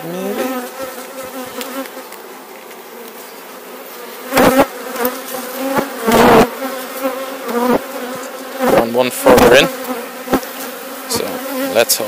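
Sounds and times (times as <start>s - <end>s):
honey bees buzzing: 0.0s - 12.0s
loud close bee buzzes: 0.0s - 12.0s.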